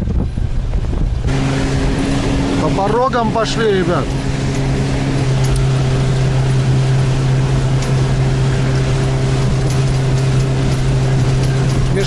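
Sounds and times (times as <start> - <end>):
outboard motor running: 0.0 - 12.0
water and wind rushing: 0.0 - 12.0.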